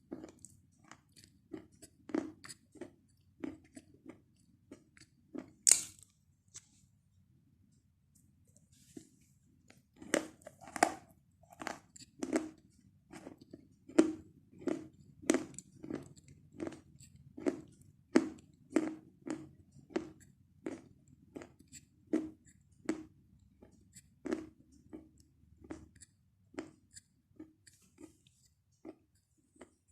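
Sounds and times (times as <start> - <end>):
chalk being chewed: 0.1 - 6.0, 9.7 - 29.9.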